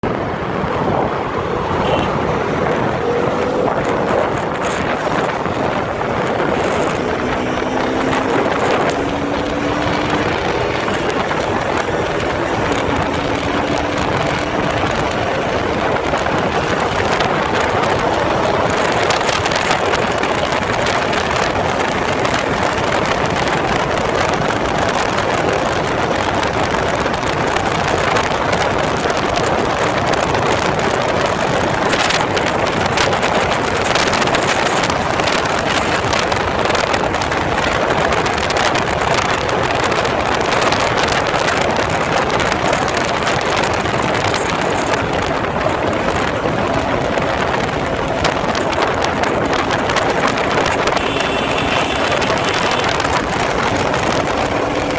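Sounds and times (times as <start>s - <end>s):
motorcycle engine and road noise: 0.0s - 54.9s
wind rushing over microphone: 0.0s - 54.9s.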